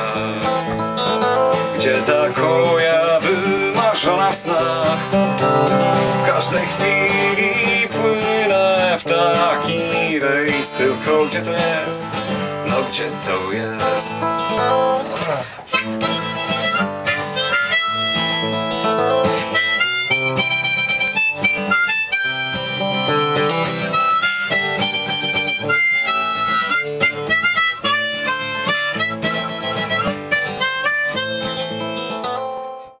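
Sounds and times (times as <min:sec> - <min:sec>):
acoustic guitar: 0:00.0 - 0:33.0
harmonica melody: 0:00.0 - 0:33.0.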